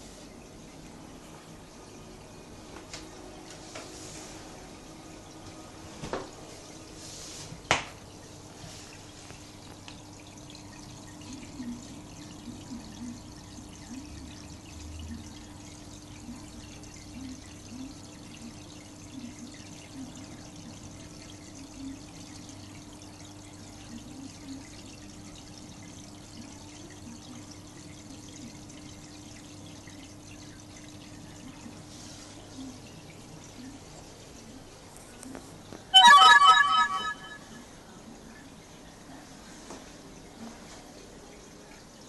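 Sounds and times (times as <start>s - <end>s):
aquarium filter water trickling: 0.0s - 42.0s.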